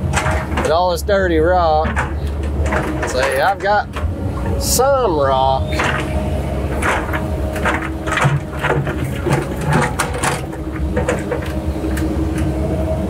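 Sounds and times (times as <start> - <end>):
rocks knocking and clattering: 0.0 - 4.8, 5.7 - 12.5
excavator running: 0.0 - 13.0.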